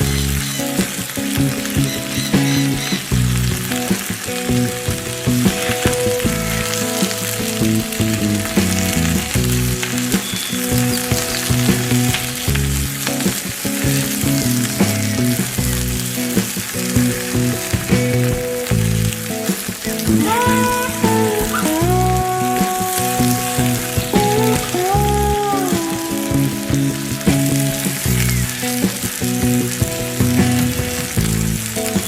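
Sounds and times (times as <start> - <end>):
background music: 0.0 - 32.0
hot oil sizzling: 0.0 - 32.0.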